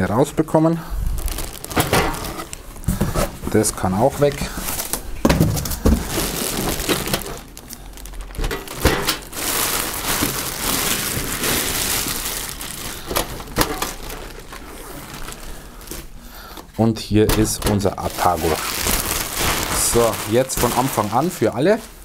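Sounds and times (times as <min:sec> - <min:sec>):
plastic bag crinkling: 0:00.1 - 0:16.6, 0:17.4 - 0:22.0.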